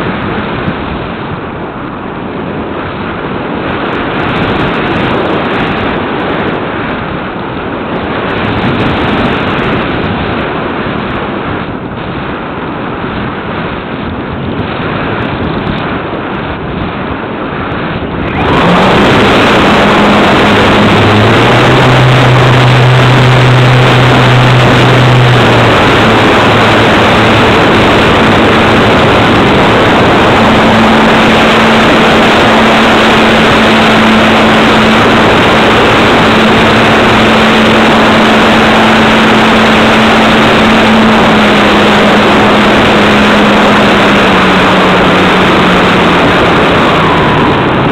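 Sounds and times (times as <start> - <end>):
airflow rushing over camera: 0.0 - 47.9
propeller motor running: 0.0 - 47.9
steady motor hum: 0.0 - 47.9.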